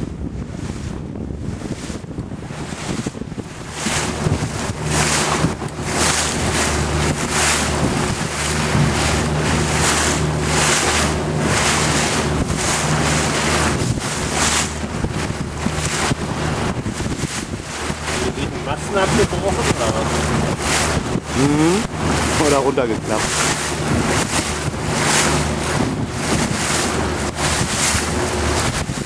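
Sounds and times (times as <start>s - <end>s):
motorboat engine running: 0.0s - 29.0s
water rushing past hull: 0.0s - 29.0s
wind buffeting microphone: 0.0s - 29.0s.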